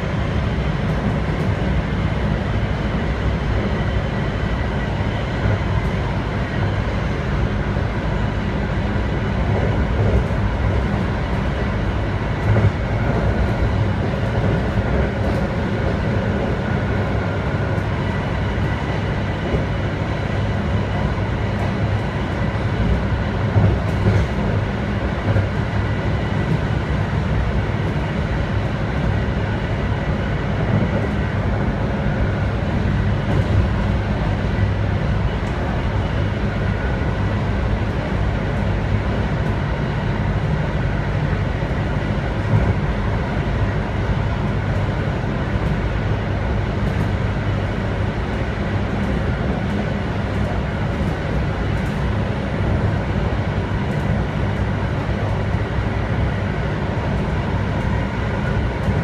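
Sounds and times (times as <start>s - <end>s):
wheel and rail roar: 0.0s - 59.0s.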